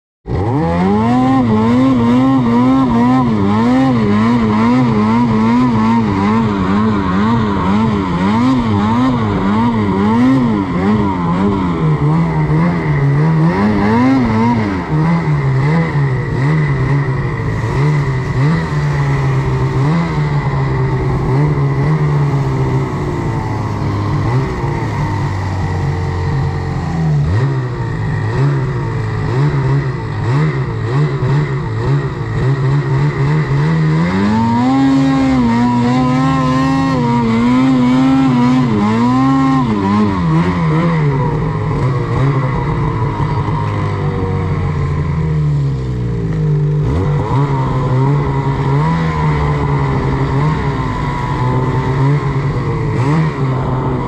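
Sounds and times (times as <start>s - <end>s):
snowmobile engine revving: 0.3s - 54.0s.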